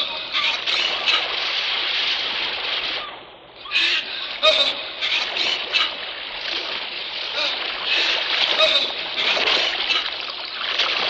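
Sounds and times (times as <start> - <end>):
water churning and splashing: 0.0 - 11.0.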